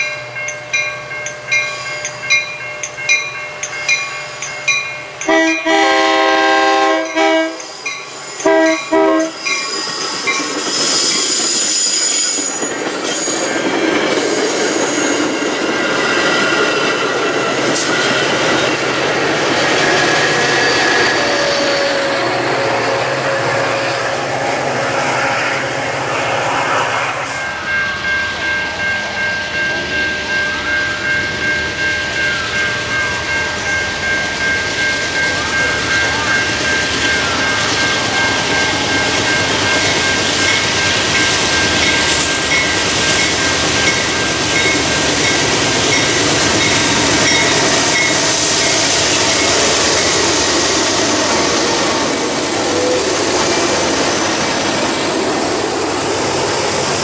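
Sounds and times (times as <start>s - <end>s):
crossing warning bell ringing: 0.0s - 26.1s, 27.2s - 56.5s
freight train passing: 0.0s - 57.0s.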